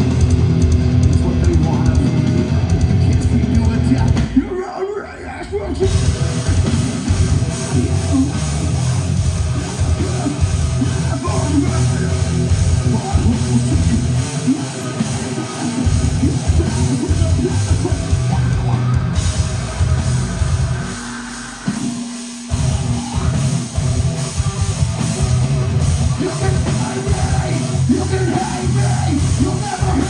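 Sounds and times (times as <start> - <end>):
bass guitar: 0.0 - 4.7, 5.4 - 30.0
drum kit: 0.0 - 4.7, 5.6 - 30.0
distorted electric guitar: 0.0 - 30.0.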